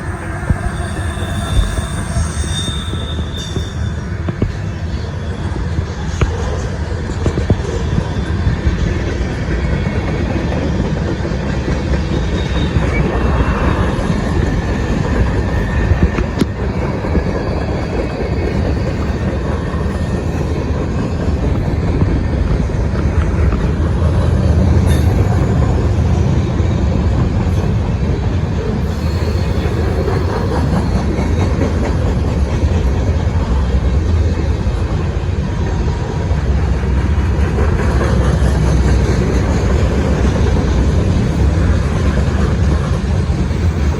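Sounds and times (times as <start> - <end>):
freight train rumble: 0.0 - 43.9
steel wheels clattering on rails: 0.0 - 43.9.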